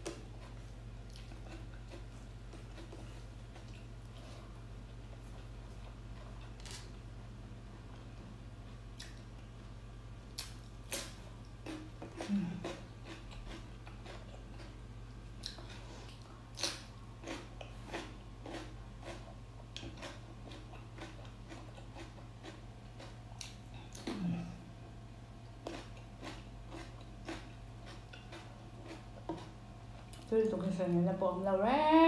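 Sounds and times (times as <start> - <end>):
person chewing food: 0.0 - 7.0, 7.8 - 9.4, 10.3 - 24.6, 25.4 - 30.3.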